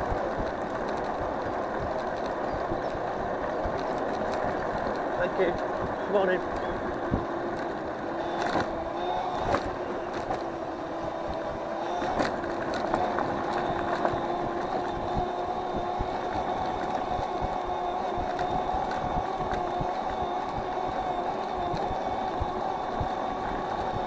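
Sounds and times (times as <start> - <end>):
electric scooter motor whining: 0.0 - 24.0
scooter clicks and knocks: 0.0 - 24.0.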